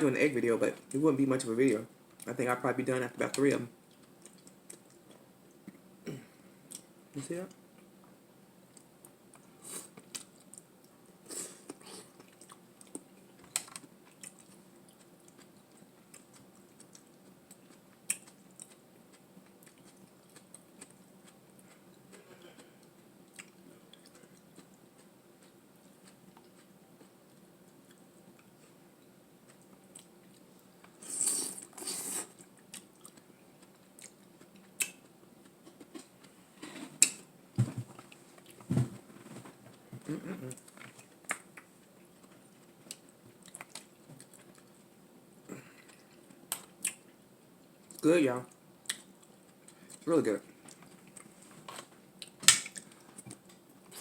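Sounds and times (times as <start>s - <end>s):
person chewing food: 3.8s - 5.9s, 8.7s - 36.4s, 37.9s - 44.9s, 45.5s - 48.0s, 48.8s - 54.0s.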